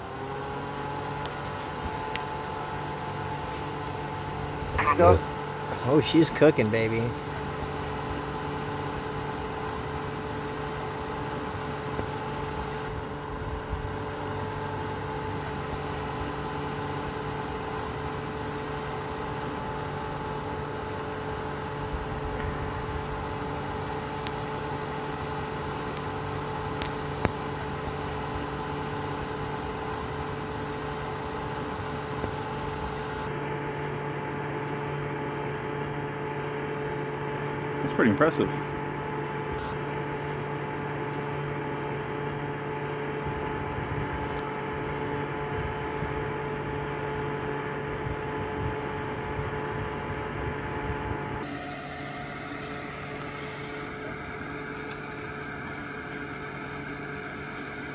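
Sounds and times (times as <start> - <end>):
heater fan humming: 0.0 - 57.9.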